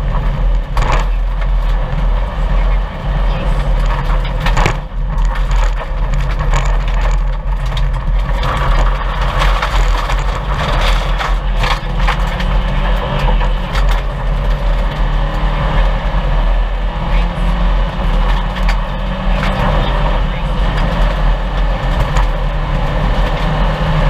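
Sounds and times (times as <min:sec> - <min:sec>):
stones rattling against car: 0:00.0 - 0:02.6, 0:03.6 - 0:16.5, 0:17.8 - 0:24.0
car engine running hard: 0:00.0 - 0:24.0.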